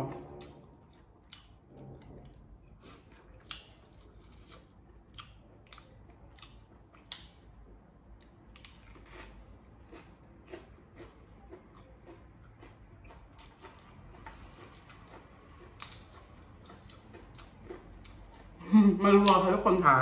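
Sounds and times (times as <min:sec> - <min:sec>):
person chewing crunchy food: 0:00.2 - 0:07.4, 0:08.2 - 0:18.6.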